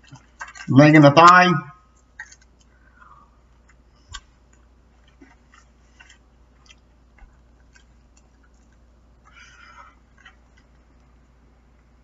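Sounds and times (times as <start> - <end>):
chewing fried chicken: 0.0 - 0.7, 1.9 - 12.0.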